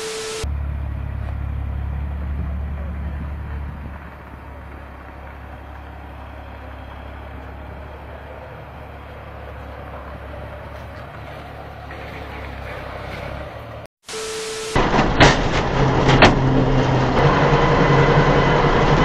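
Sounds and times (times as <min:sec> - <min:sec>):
heavy vehicle engine rumble: 0:00.0 - 0:13.9, 0:14.8 - 0:19.0.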